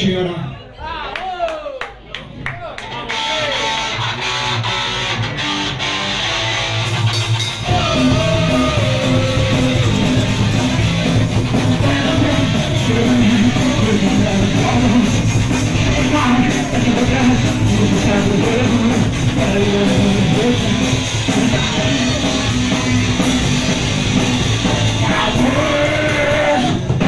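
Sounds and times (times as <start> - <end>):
punk band playing live: 3.0 - 27.0
electric guitar: 3.1 - 27.0.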